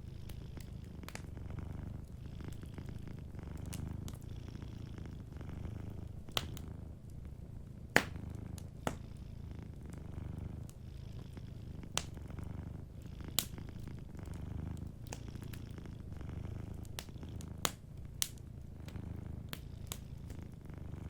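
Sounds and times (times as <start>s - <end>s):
cat purring: 0.0s - 21.0s
wood fire crackling: 0.0s - 21.0s.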